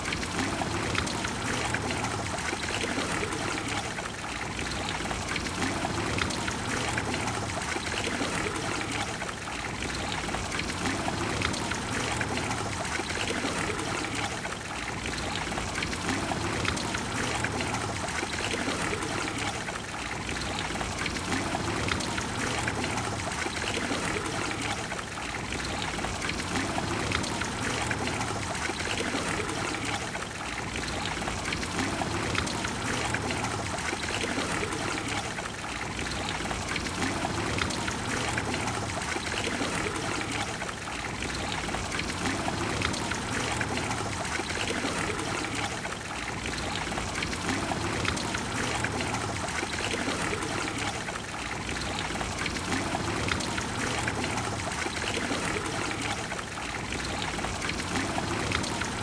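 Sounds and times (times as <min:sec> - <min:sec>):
fountain water flowing: 0:00.0 - 0:59.0.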